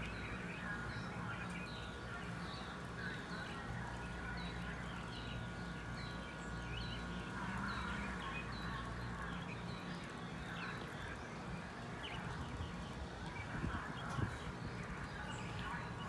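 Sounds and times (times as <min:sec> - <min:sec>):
bird chirping: 0:00.0 - 0:16.0
steady low hum: 0:00.0 - 0:16.0.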